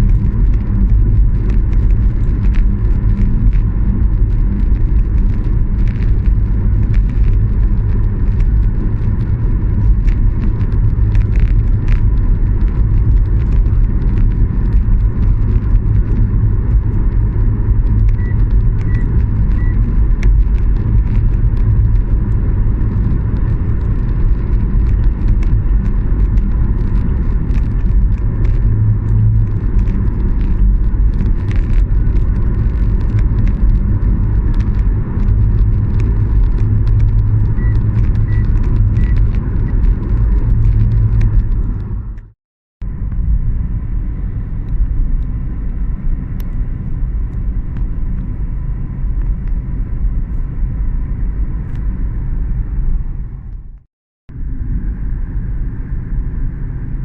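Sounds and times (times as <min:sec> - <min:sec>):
low rumble of traffic: 0:00.0 - 0:57.0.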